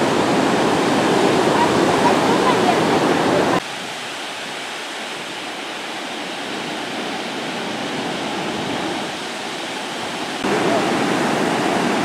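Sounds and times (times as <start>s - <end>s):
ocean surf hissing: 0.0s - 12.0s.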